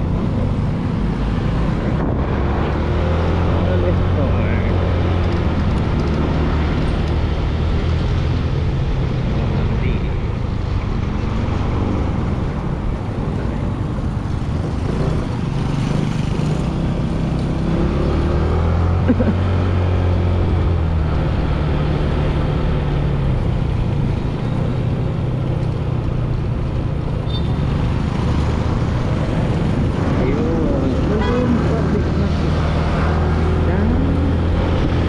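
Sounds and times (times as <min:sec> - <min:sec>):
background traffic: 0:00.0 - 0:35.0.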